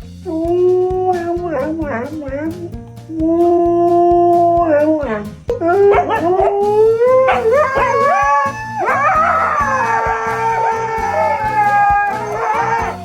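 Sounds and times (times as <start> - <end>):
background music with steady beat: 0.0 - 13.0
dog howling: 0.3 - 2.4, 4.6 - 13.0.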